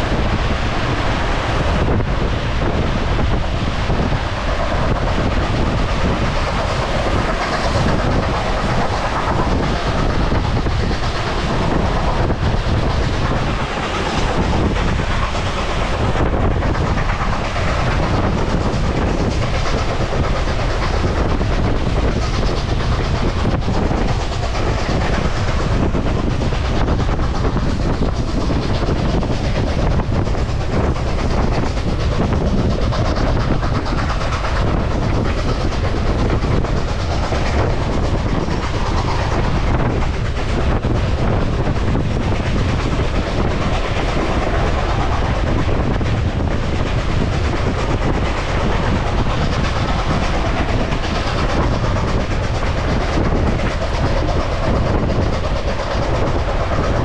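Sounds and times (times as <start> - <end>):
train running on rails: 0.0 - 57.0.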